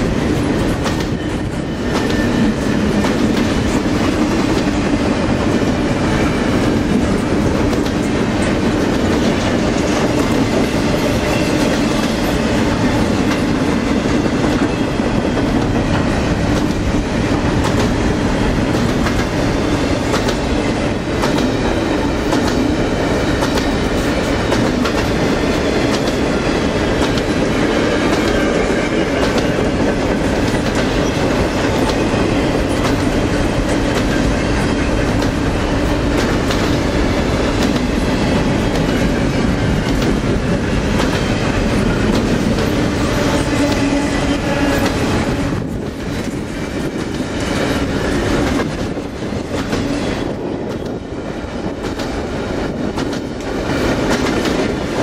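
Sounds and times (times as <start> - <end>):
irregular rail clacks: 0.0 - 55.0
steel wheels rumbling on rail: 0.0 - 55.0.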